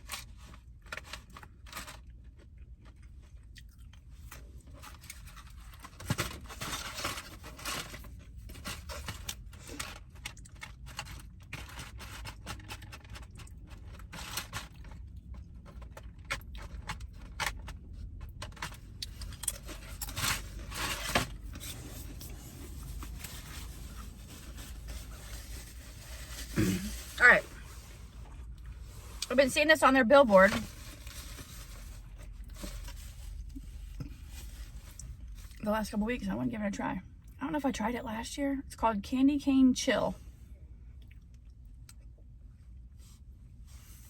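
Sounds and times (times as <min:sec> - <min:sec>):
crinkling: 0:00.0 - 0:35.6.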